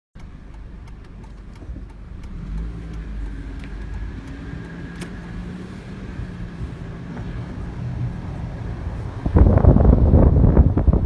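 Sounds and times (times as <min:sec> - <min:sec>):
car engine rumbling: 0:00.2 - 0:11.0.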